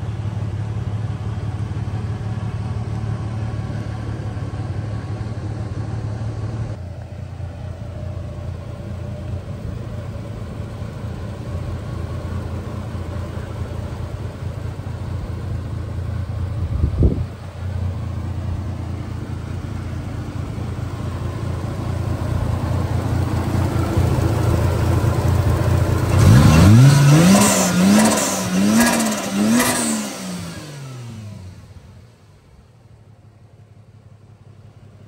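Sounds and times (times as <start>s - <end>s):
car engine running and revving: 0.0s - 33.5s.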